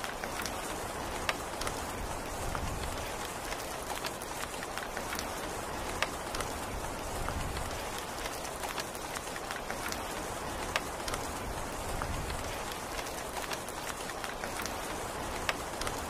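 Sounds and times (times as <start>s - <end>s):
rain on hard surface: 0.0s - 16.0s.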